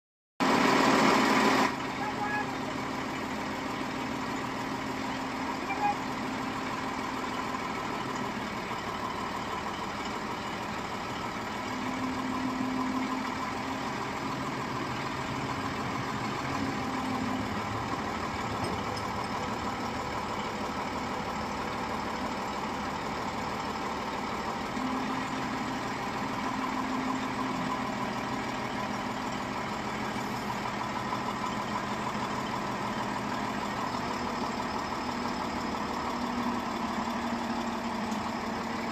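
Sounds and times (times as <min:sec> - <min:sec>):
diesel engine running: 0:00.4 - 0:38.9.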